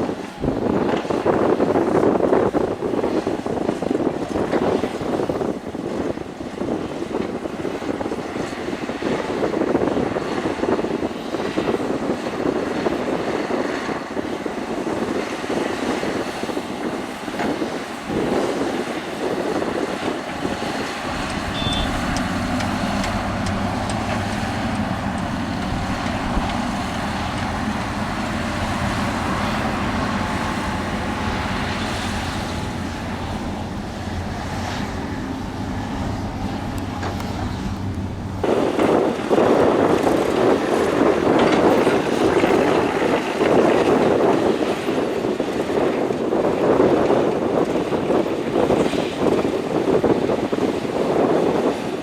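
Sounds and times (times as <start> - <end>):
diesel machinery running: 0.0 - 52.0
wind buffeting microphone: 0.0 - 52.0.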